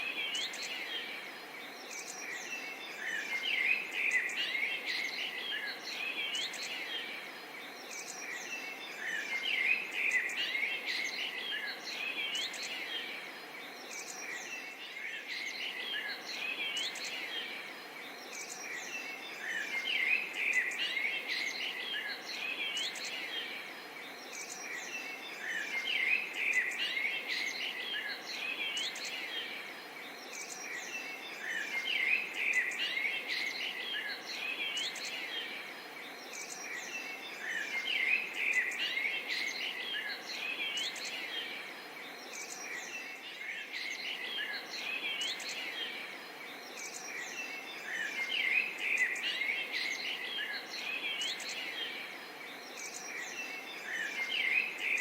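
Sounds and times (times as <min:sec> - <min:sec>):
faint hiss: 0:00.0 - 0:55.0
small birds chirping and whistling: 0:00.0 - 0:55.0.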